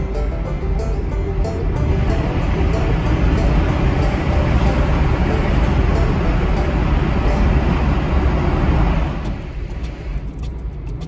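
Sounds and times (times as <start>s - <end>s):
car road and tyre noise: 0.0s - 11.0s.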